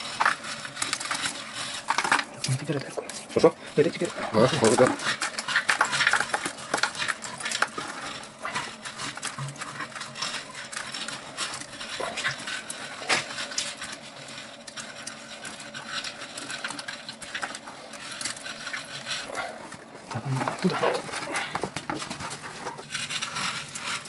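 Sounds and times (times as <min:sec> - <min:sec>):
gritty scraping: 0:00.0 - 0:24.0.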